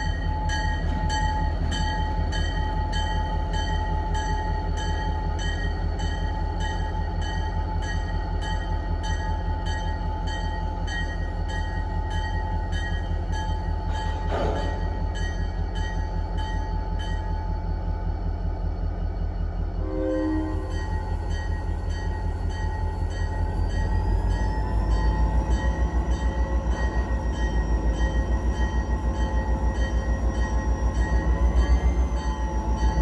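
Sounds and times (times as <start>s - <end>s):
locomotive bell ringing: 0.0s - 17.7s, 19.8s - 33.0s
diesel locomotive engine rumbling: 0.0s - 33.0s.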